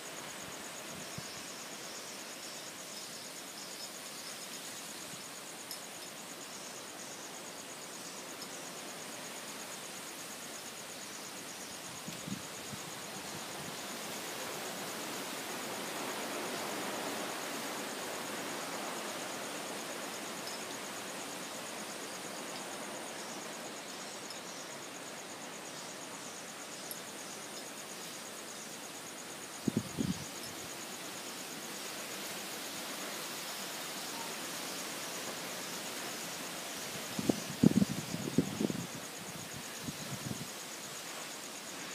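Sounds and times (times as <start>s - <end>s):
insects trilling: 0.0s - 41.9s
strong wind gusting through trees: 0.0s - 41.9s.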